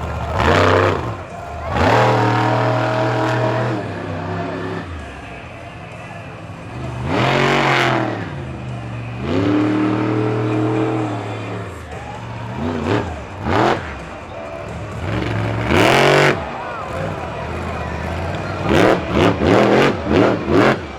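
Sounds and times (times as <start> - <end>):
truck engine revving: 0.0 - 20.9.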